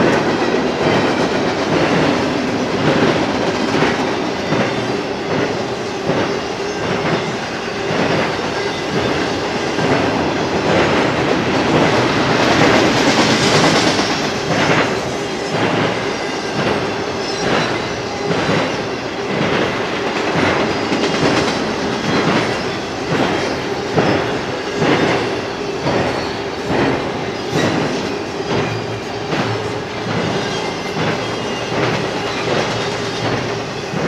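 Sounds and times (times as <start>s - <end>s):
freight train rolling past: 0.0s - 34.0s.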